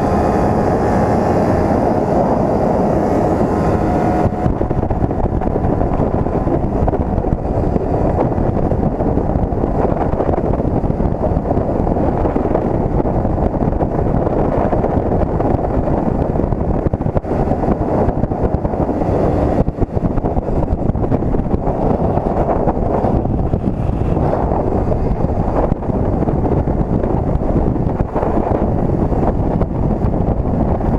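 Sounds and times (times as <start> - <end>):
wind rush and motorcycle rumble: 0.0 - 30.9.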